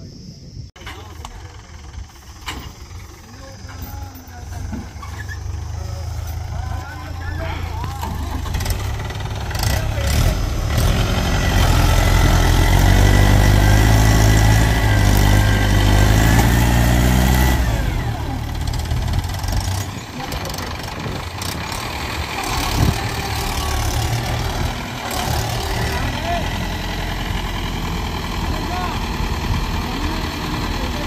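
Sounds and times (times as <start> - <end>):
tractor diesel engine running: 0.8 - 31.0.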